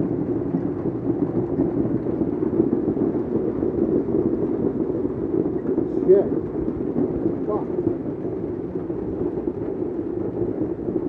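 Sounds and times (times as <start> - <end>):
hail and rain pelting cars: 0.0 - 11.0.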